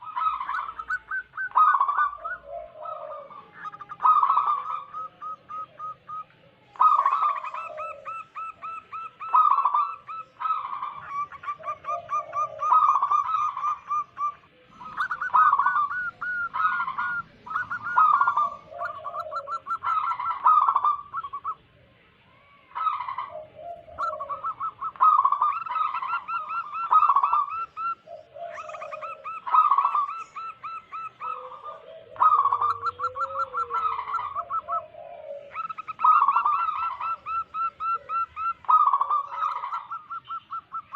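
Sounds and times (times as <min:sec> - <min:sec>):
dove cooing in trills: 0:00.0 - 0:21.8, 0:22.6 - 0:40.9.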